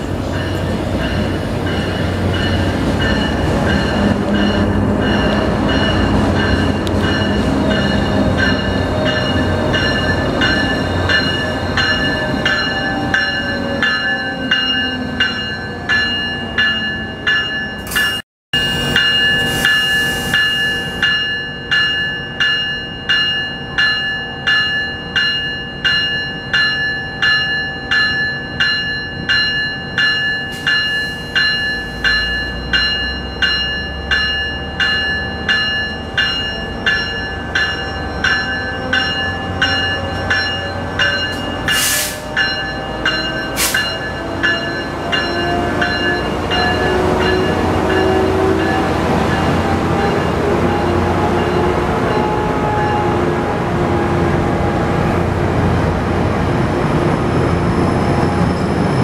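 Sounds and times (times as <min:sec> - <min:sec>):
locomotive bell ringing: 0:00.0 - 0:53.9.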